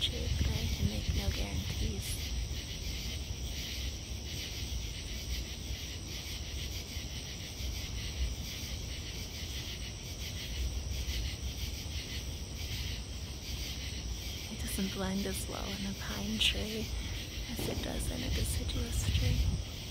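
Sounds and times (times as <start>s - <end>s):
crickets and katydids trilling: 0.0s - 19.9s.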